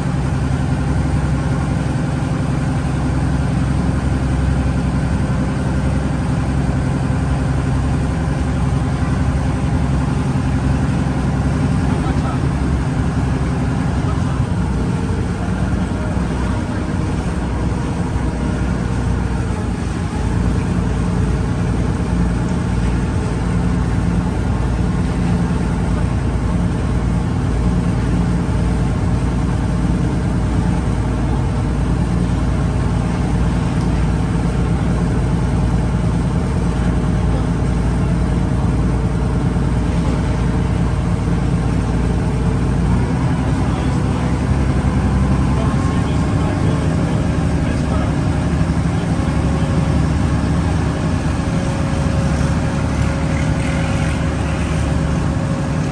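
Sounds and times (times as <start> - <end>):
boat engine humming: 0.0 - 55.9
water noise: 0.0 - 55.9.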